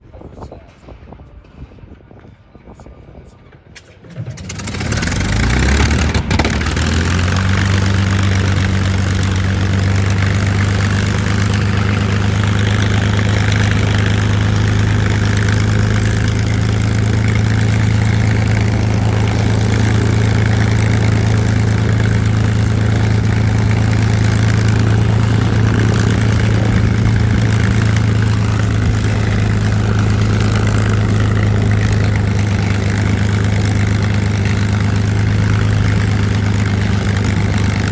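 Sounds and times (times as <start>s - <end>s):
aircraft engine starting and idling: 3.7s - 37.9s.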